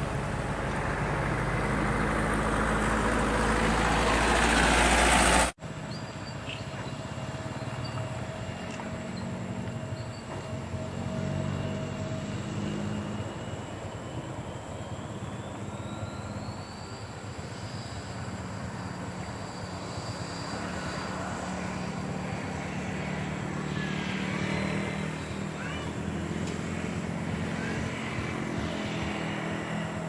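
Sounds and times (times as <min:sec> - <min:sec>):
jet engines running: 0:00.0 - 0:30.0
thin engine whine: 0:00.0 - 0:30.0.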